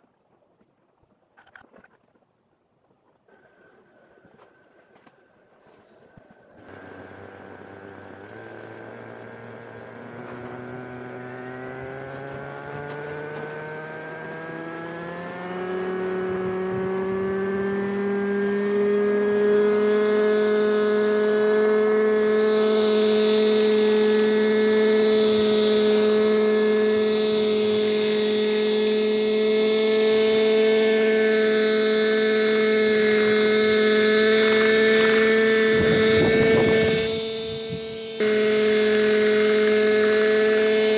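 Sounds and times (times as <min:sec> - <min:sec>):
model helicopter engine spooling up: 0:06.5 - 0:40.9.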